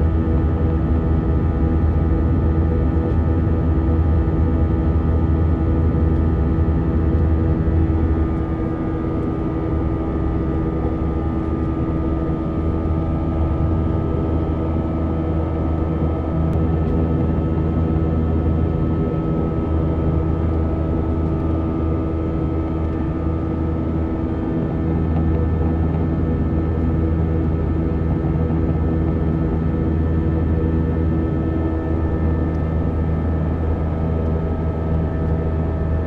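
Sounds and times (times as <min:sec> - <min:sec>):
jet engine drone: 0:00.0 - 0:36.0.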